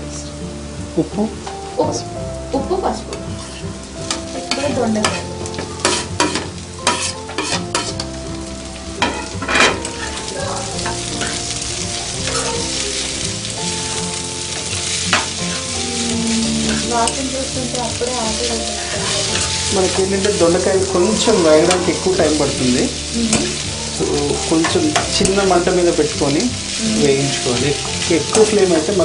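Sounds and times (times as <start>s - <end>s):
vegetables sizzling in oil: 0.0s - 29.0s
metal spoon scraping a pan: 3.3s - 8.2s, 9.0s - 17.5s, 18.4s - 28.8s.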